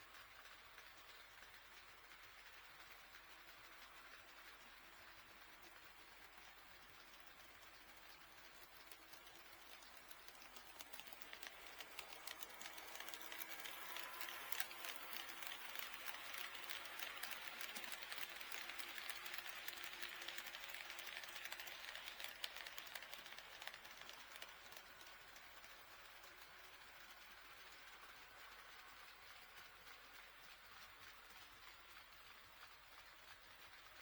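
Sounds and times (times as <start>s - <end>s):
model train wheels clicking: 0.0s - 34.0s.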